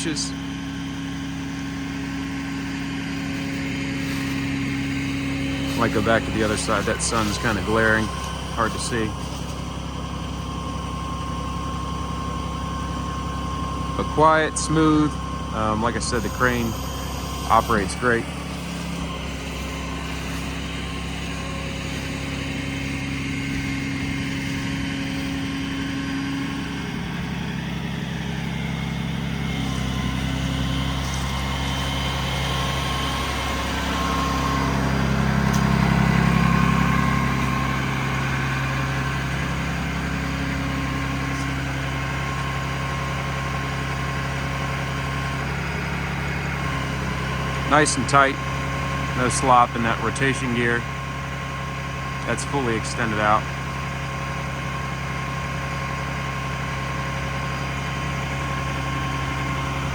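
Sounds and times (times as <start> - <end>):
diesel engine at raised idle: 0.0 - 59.9.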